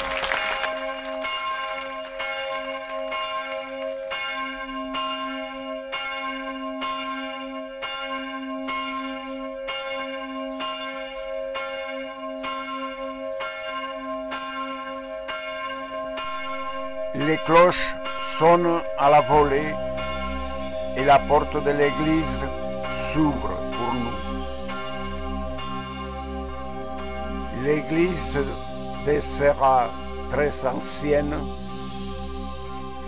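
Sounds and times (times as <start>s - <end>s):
church bells pealing: 0.2s - 33.0s.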